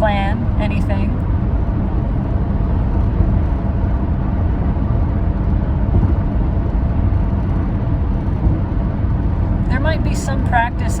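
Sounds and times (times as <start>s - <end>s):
vehicle road noise rumble: 0.0s - 11.0s.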